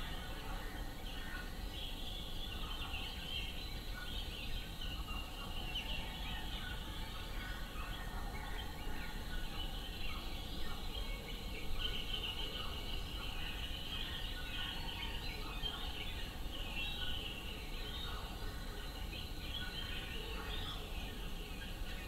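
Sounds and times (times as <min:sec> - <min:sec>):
many birds chirping: 0:00.0 - 0:22.0.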